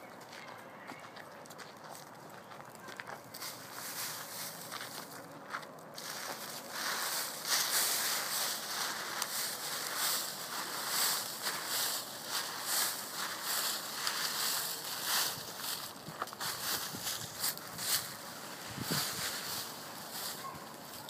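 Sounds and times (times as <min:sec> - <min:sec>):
footsteps crunching on dry ground: 0:00.0 - 0:21.0.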